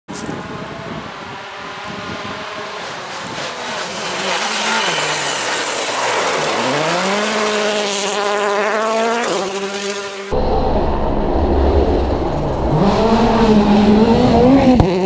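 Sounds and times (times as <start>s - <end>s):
rally car engine accelerating: 0.5s - 15.0s.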